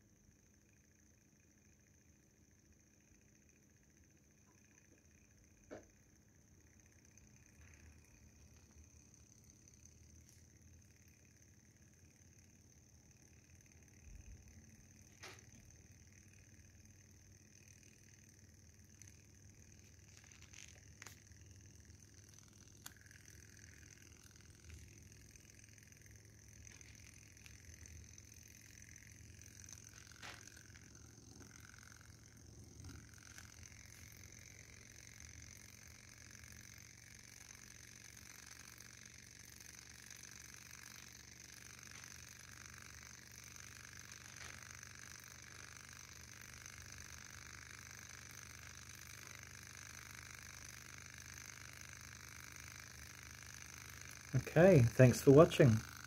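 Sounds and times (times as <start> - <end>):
hot air engine running quietly: 0.0 - 56.0.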